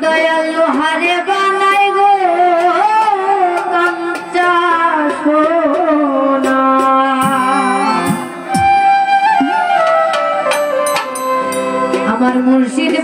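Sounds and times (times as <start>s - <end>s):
woman singing into microphone: 0.0s - 10.2s, 11.8s - 13.0s
live instrumental accompaniment: 0.0s - 13.0s.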